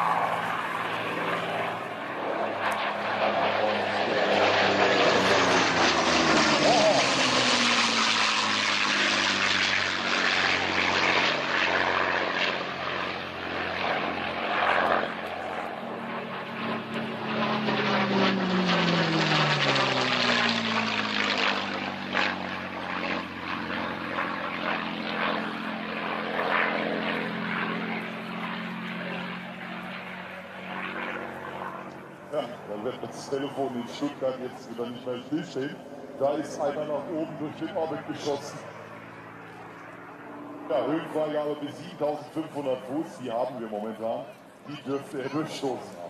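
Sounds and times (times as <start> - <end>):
propeller aircraft engine fly-past: 0.0 - 46.0.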